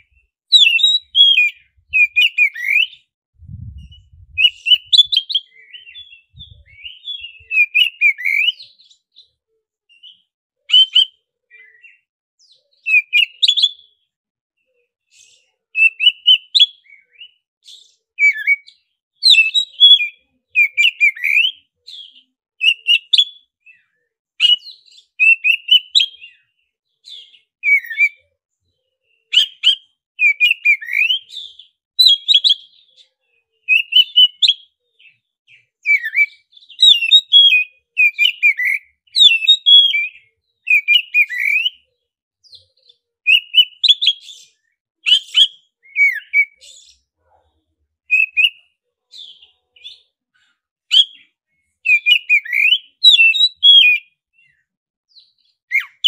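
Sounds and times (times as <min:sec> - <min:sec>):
bird singing whistles and chirps: 0:00.0 - 0:14.0, 0:15.0 - 0:28.2, 0:29.0 - 0:47.1, 0:48.1 - 0:50.1, 0:50.9 - 0:56.0.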